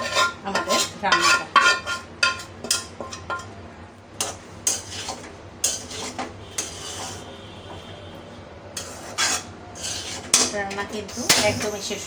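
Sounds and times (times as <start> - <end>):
spatula scraping a pan: 0.0 - 3.5, 4.2 - 7.9, 8.7 - 12.0.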